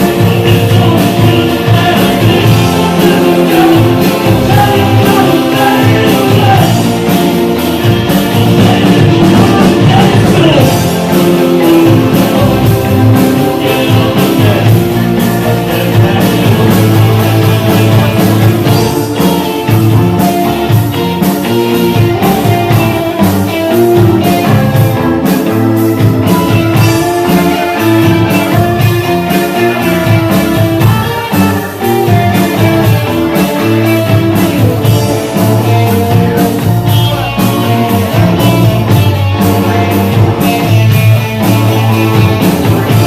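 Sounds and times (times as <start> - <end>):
electric guitar: 0.0 - 43.0
rock band instrumental: 0.0 - 43.0
steady drum beat: 0.0 - 43.0.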